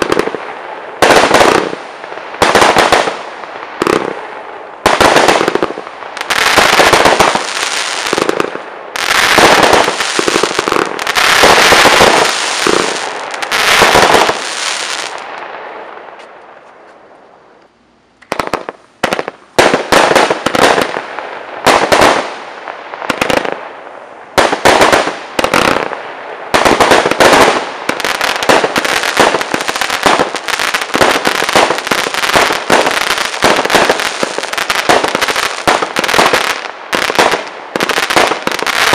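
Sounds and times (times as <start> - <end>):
firework rapid bangs and crackling: 0.0 - 15.4, 18.3 - 38.9.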